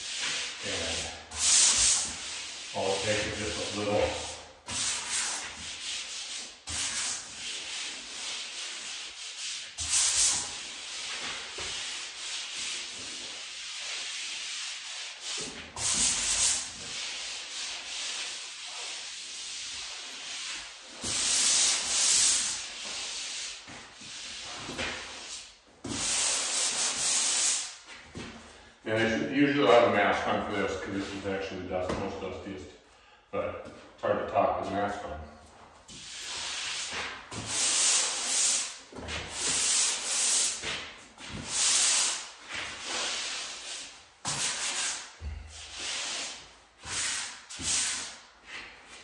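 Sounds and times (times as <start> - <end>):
hand sanding wall: 0.0 - 32.4, 35.8 - 49.0.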